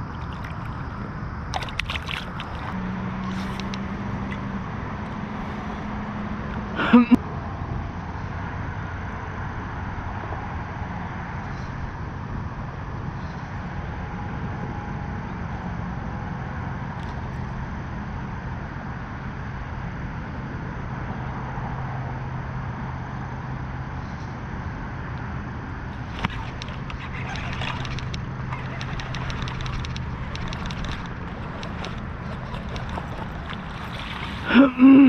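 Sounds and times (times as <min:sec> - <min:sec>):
low hum: 0:00.0 - 0:35.0
outdoor noise: 0:00.0 - 0:35.0.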